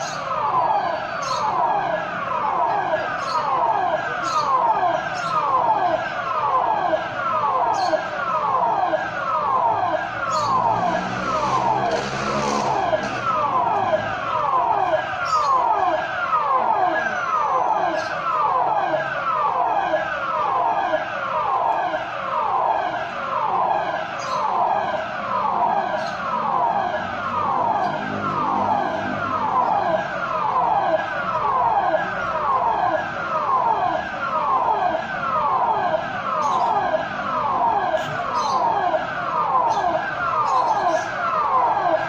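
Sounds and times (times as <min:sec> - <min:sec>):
warning siren falling sweeps: 0:00.0 - 0:42.0.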